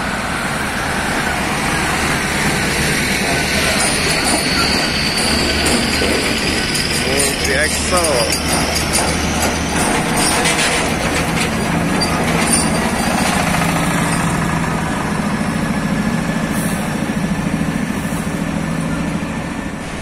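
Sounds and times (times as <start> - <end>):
truck diesel engine drone: 0.0 - 20.0
tyres rumbling on road: 0.0 - 20.0.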